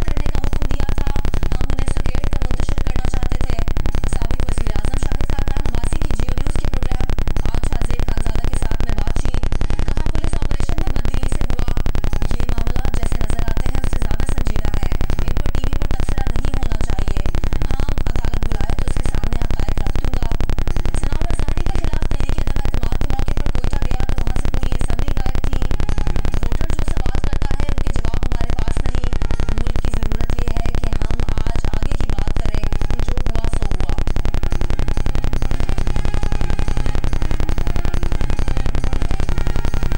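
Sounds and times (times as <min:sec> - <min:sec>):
pulsing buzzing static: 0:00.0 - 0:39.9.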